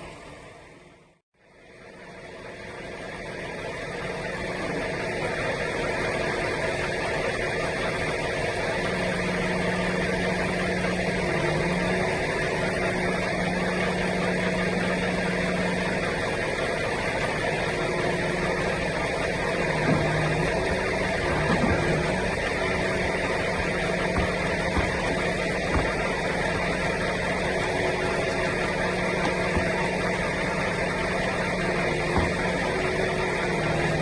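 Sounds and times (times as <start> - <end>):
vehicle engine running: 3.4 - 34.0.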